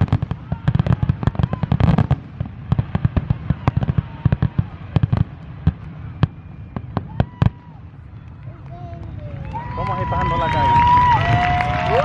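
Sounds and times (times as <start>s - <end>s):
fireworks bursts and bangs: 0.0s - 12.0s.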